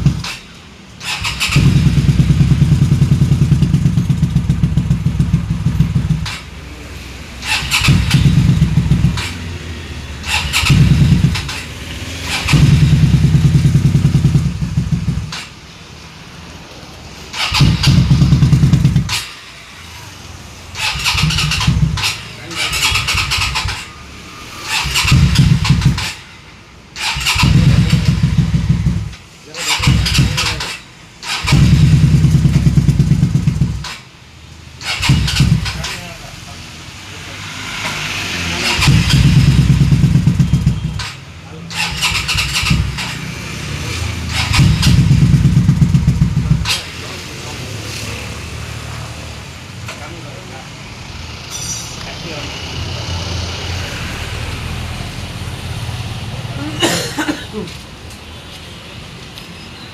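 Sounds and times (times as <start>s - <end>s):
motorcycle engine revving: 0.0s - 57.8s.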